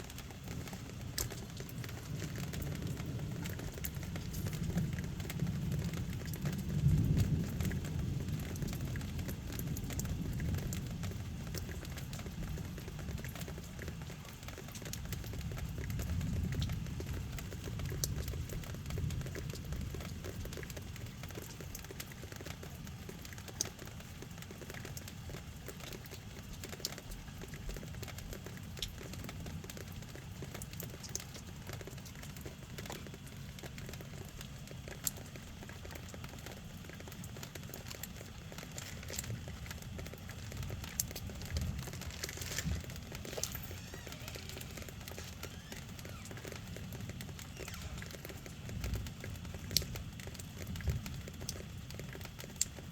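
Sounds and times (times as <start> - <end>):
sharp drip ticks: 0.0 - 52.9
steady rain falling: 0.0 - 52.9.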